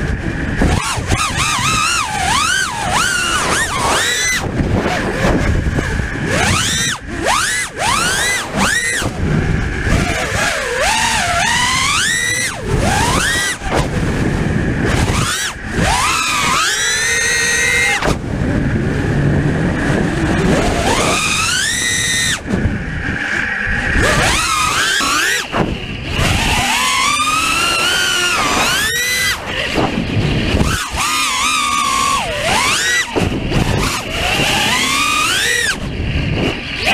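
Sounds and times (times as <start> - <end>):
drone motors whining: 0.0 - 36.9
propeller wash noise: 0.0 - 36.9.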